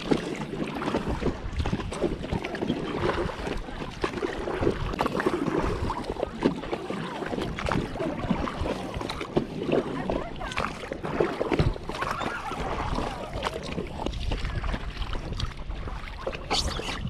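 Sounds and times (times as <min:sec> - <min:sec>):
oars splashing in water: 0:00.0 - 0:17.0
water slapping against boat: 0:00.0 - 0:17.0.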